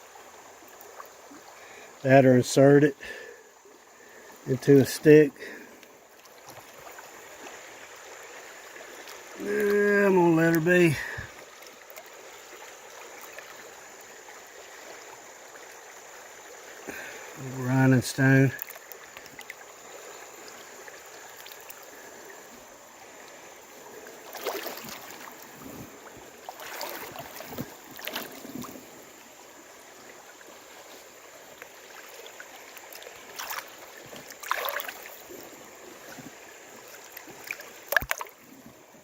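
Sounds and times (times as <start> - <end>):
creek water rushing: 0.0 - 39.0
wading through deep water: 0.0 - 39.0.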